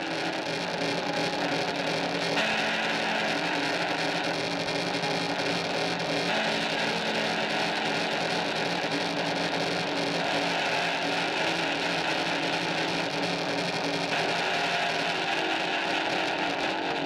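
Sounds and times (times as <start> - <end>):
noisy distorted music: 0.0 - 17.0.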